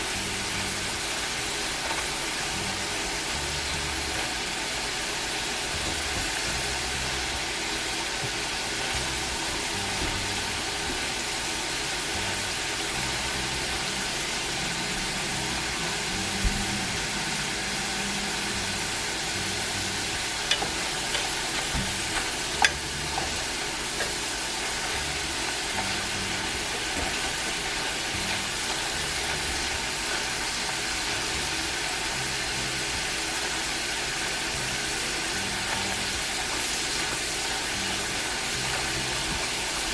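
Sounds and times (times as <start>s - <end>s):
fries sizzling in oil: 0.0s - 39.9s.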